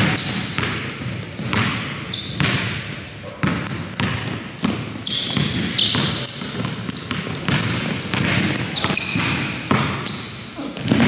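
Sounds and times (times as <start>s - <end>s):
basketball bouncing on wooden floor: 0.0s - 11.0s
sneaker squeaks: 0.0s - 11.0s.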